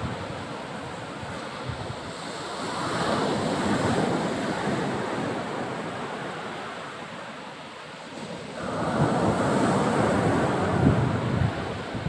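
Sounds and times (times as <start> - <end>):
wind noise on microphone: 0.0 - 6.6, 8.1 - 12.0
surf washing onto beach: 0.0 - 12.0.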